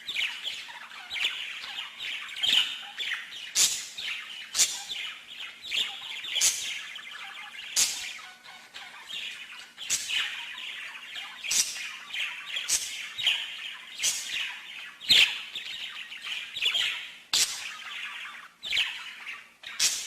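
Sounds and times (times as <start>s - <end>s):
songbird chirping and twittering: 0.0s - 20.0s.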